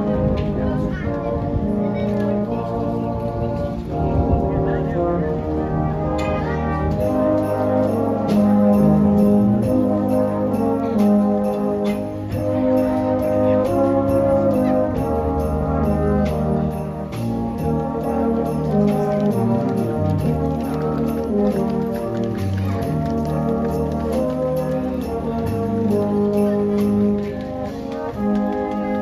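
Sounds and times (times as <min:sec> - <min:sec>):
brass band playing chords: 0:00.0 - 0:29.0.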